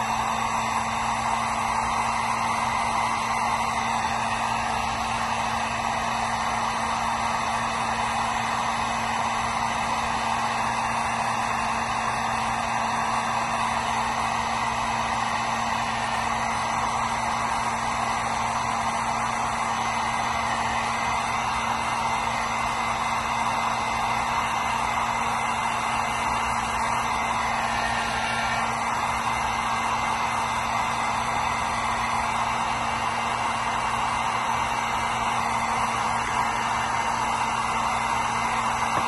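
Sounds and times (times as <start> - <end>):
heat gun fan blowing hot air: 0.0 - 39.0.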